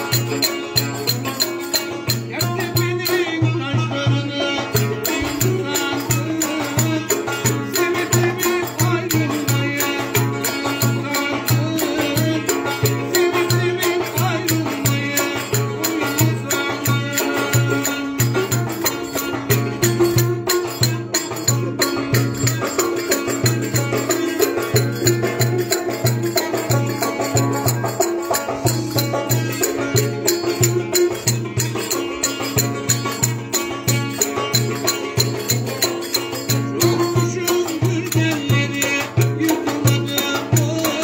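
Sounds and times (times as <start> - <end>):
folk melody: 0.0 - 41.0
plucked stringed instrument: 0.0 - 41.0.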